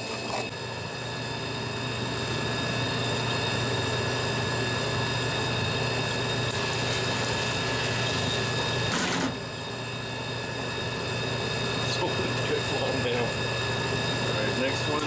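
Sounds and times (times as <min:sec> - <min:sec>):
vending machine motor humming: 0:00.0 - 0:15.0.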